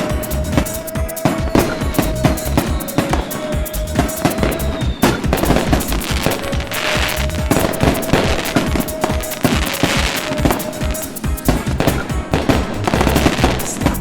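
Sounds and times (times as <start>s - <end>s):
background music: 0.0s - 14.0s
fireworks bangs: 0.0s - 14.0s
fireworks crackling: 0.0s - 14.0s.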